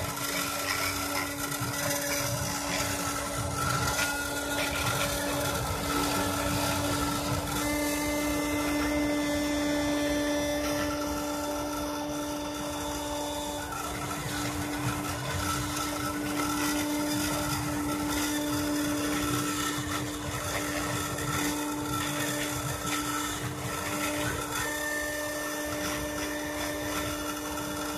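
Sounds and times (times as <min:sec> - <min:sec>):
rotary tool spindle whine: 0:00.0 - 0:27.9
stepper motor tones: 0:00.0 - 0:27.9.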